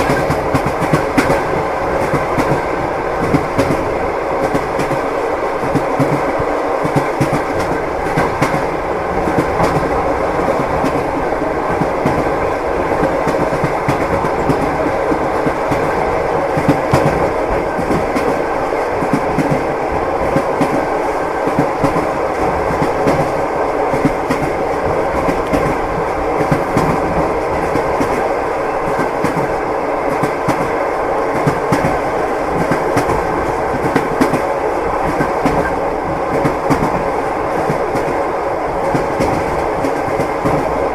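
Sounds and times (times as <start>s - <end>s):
train carriage rumbling: 0.0s - 40.9s
wheels clickety-clack on rail joints: 0.0s - 40.9s.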